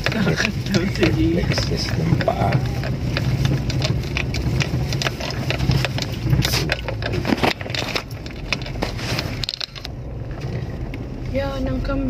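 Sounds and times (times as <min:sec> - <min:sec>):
vehicle engine running: 0:00.0 - 0:12.0
vehicle rattles and knocks: 0:00.0 - 0:12.0.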